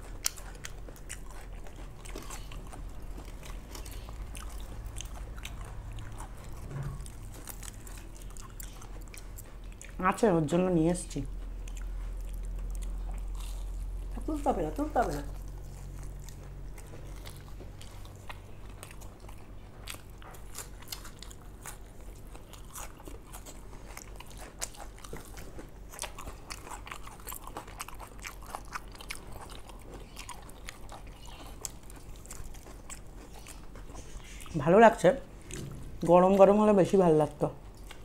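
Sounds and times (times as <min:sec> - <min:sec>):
crunchy chewing of fried fish: 0:00.0 - 0:38.0.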